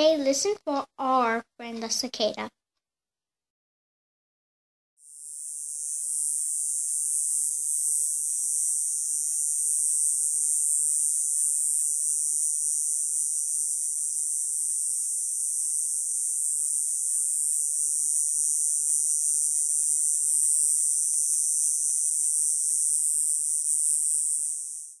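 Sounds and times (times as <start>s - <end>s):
cicada buzzing: 5.0s - 25.0s.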